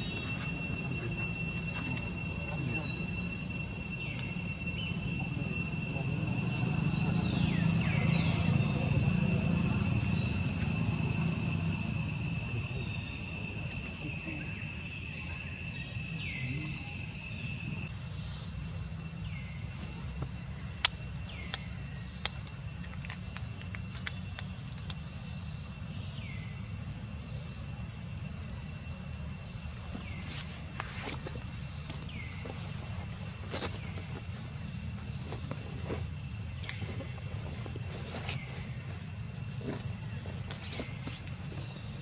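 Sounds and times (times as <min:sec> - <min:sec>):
high-pitched insect drone: 0:00.0 - 0:42.0.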